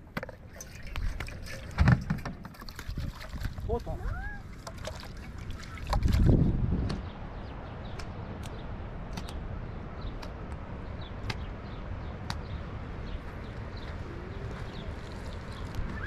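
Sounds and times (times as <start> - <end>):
wind rumble on microphone: 0.6 - 16.0.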